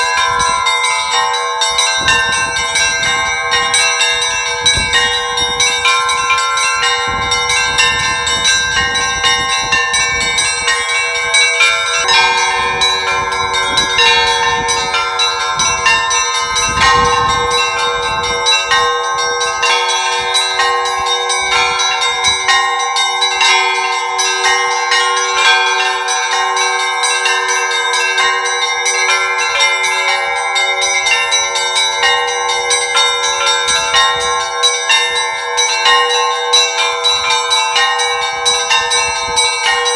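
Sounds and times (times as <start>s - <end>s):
deep bell strikes: 0.0s - 39.9s
small church bells pealing: 0.0s - 39.9s.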